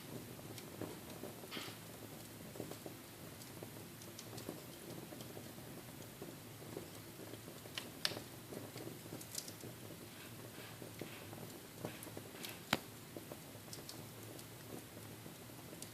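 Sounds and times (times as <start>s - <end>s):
fire pops and snaps: 0.0s - 15.9s
low steady hiss: 0.0s - 15.9s
wood fire crackling: 0.0s - 15.9s.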